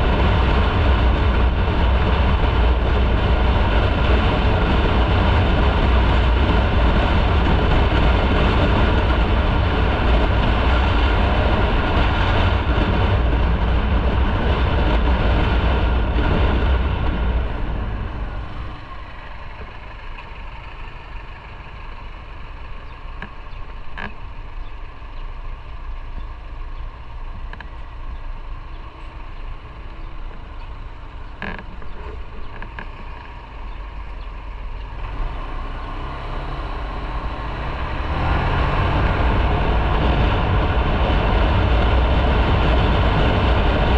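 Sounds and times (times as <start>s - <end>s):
wind noise: 0.0s - 21.8s, 26.0s - 43.9s
motorcycle engine: 0.0s - 43.9s
traffic: 0.0s - 43.9s.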